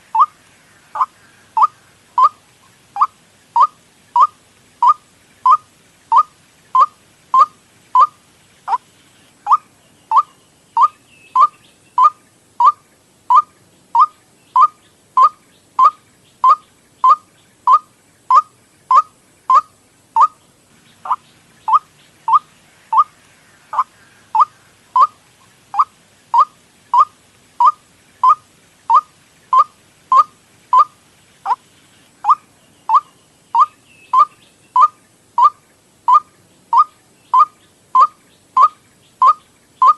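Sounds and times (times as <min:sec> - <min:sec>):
waterhen calls: 0:00.0 - 0:39.9.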